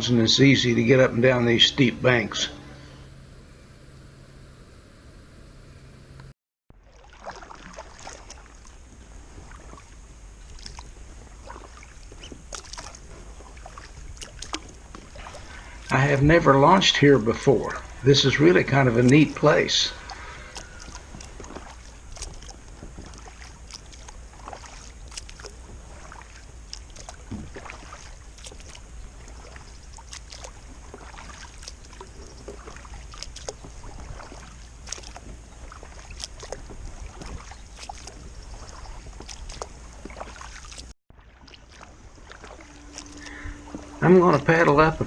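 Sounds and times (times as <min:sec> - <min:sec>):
steady low rumble: 0:00.0 - 0:06.3, 0:08.1 - 0:45.0
paddle splashes and drips: 0:06.7 - 0:45.0.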